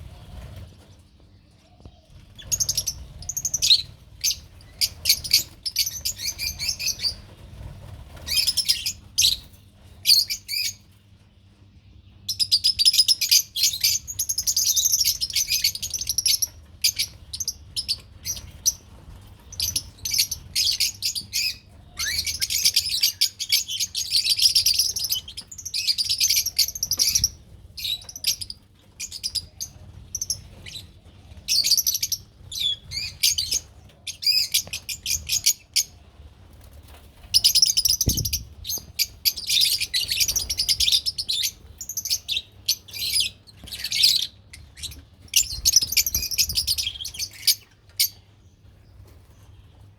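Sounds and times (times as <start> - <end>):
lovebirds chirping: 0.0 - 11.0, 11.9 - 36.0, 36.6 - 49.9.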